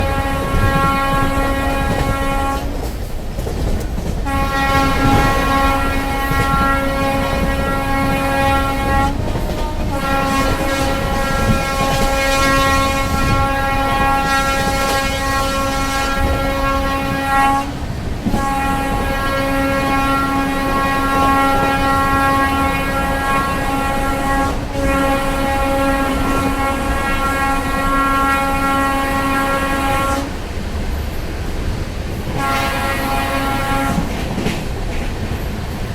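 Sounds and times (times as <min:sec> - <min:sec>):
train horn blasts: 0:00.0 - 0:02.8, 0:04.2 - 0:30.4, 0:32.4 - 0:34.6
train rumble and wheel clatter: 0:00.0 - 0:35.9.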